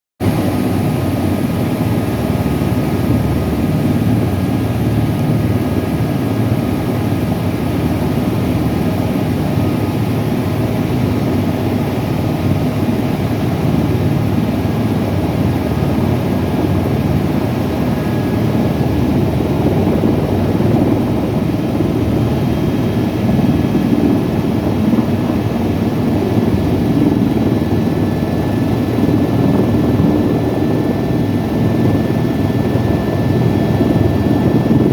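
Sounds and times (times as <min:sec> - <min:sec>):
helicopter engine and rotors: 0:00.2 - 0:34.9.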